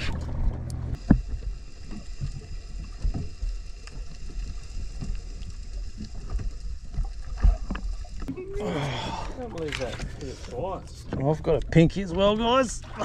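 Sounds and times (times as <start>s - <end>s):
underwater water sloshing: 0.0s - 13.0s.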